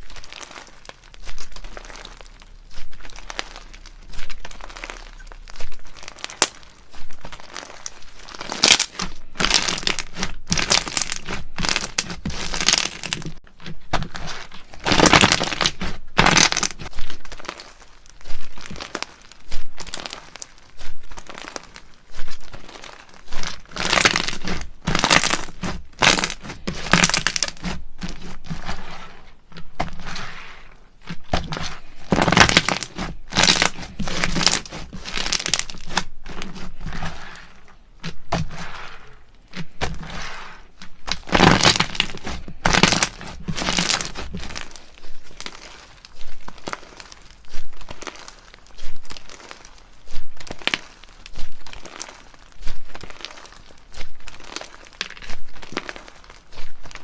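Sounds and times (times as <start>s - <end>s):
slime crackling when squeezed: 0.0s - 13.4s, 14.1s - 29.0s, 29.8s - 37.4s, 39.5s - 57.0s.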